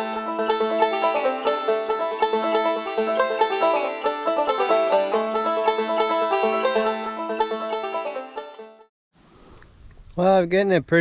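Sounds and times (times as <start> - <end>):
fast plucked banjo tune: 0.0 - 8.9.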